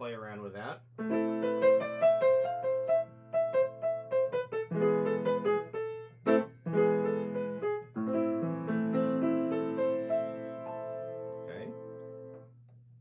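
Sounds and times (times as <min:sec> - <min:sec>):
solo piano playing: 0:01.0 - 0:12.4.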